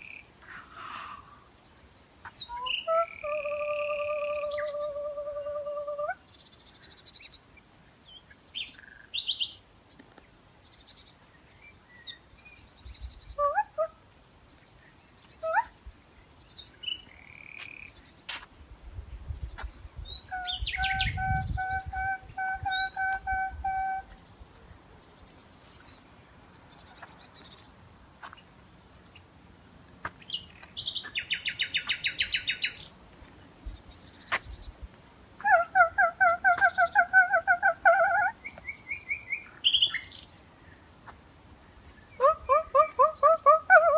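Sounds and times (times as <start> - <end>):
nightingale singing: 0.0 - 10.0, 10.6 - 13.9, 14.5 - 18.2, 19.2 - 24.2, 29.1 - 33.0, 33.6 - 40.8, 41.6 - 43.9.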